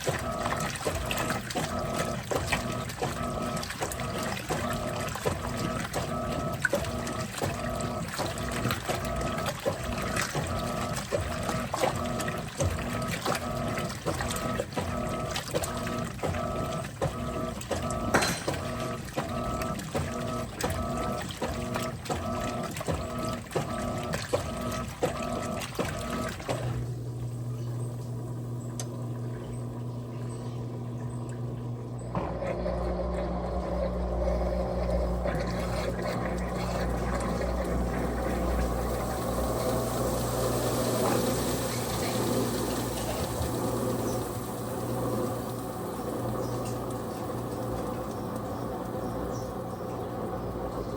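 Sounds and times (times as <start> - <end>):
running water: 0.0 - 50.9
washing machine agitator strokes: 0.0 - 50.9
washing machine motor hum: 0.0 - 50.9.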